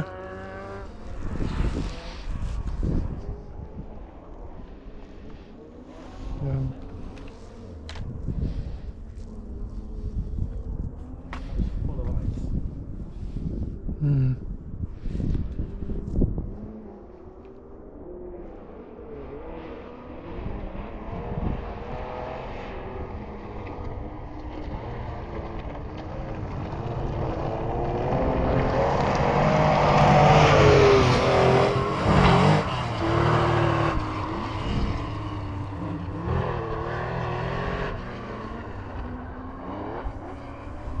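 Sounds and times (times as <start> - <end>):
rally car engine passing by: 0.0 - 10.0, 15.6 - 41.0.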